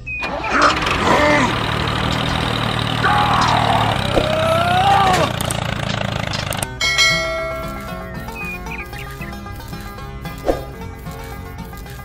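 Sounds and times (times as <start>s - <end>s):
rising and falling cries: 0.0s - 10.3s
tractor engine running: 0.0s - 12.0s.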